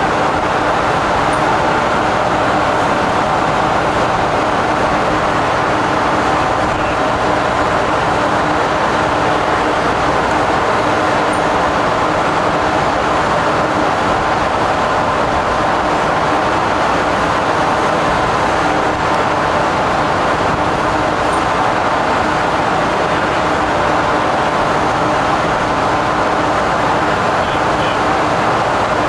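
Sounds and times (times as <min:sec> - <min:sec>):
faint constant hum: 0:00.0 - 0:29.0
shipboard machinery drone: 0:00.0 - 0:29.0.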